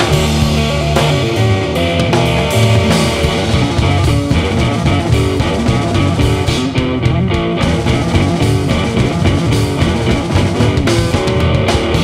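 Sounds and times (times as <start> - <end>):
distorted electric guitar: 0.0 - 12.0
drum kit: 0.0 - 12.0
electric bass: 0.0 - 12.0.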